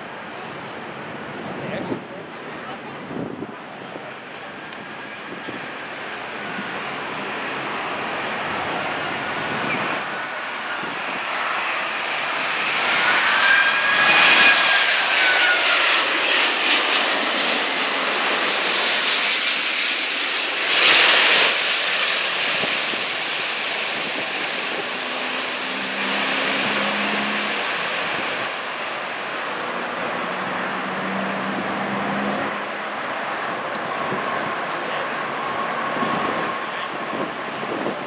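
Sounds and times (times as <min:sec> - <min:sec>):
jet airliner passing overhead: 0:00.0 - 0:38.0.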